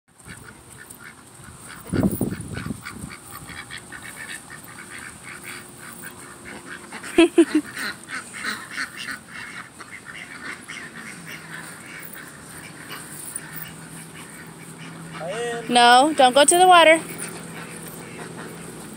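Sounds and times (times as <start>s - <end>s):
ducks quacking: 0.2s - 18.9s.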